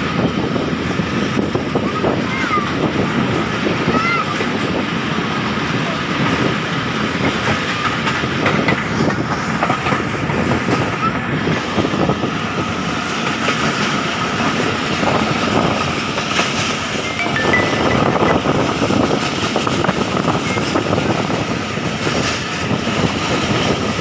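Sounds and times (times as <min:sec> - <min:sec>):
rail clicks and clatter: 0:00.0 - 0:24.0
train wheels rumbling on track: 0:00.0 - 0:24.0.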